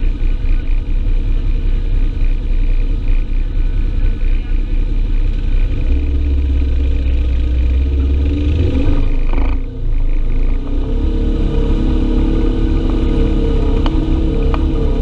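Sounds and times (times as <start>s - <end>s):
clatter: 0.0s - 15.0s
utility vehicle engine running: 0.0s - 15.0s.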